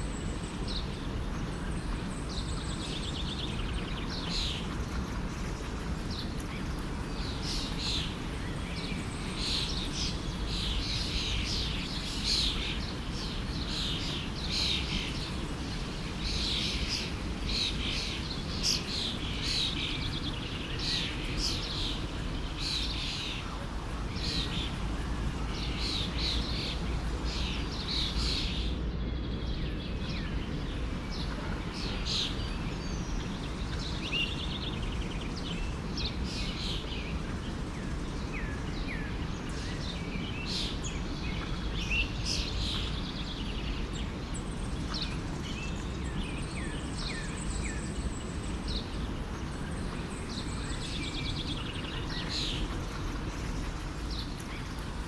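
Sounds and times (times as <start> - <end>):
small birds chirping and trilling: 0.0 - 55.0
forest stream rushing: 5.6 - 28.8, 29.7 - 55.0.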